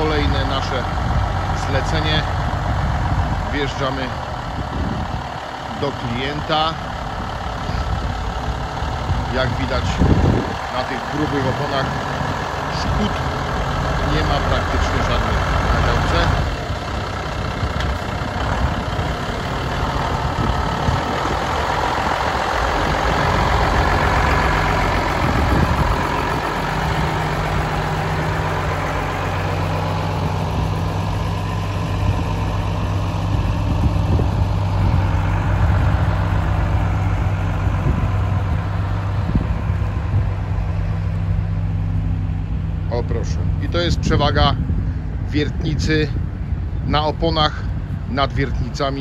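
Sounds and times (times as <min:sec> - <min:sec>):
diesel truck engine at low revs: 0:00.0 - 0:49.0.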